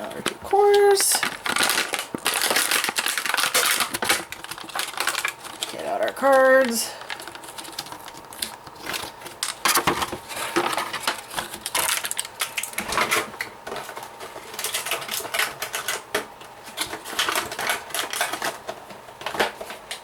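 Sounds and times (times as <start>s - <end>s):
plastic packaging rustling: 0.0s - 20.0s.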